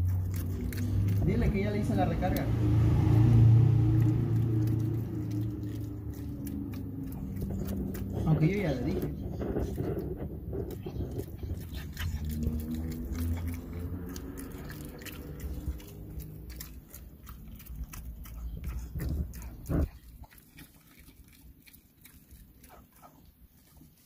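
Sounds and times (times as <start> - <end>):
low hum: 0.0 - 20.3
dog chewing hard treat: 0.0 - 24.0.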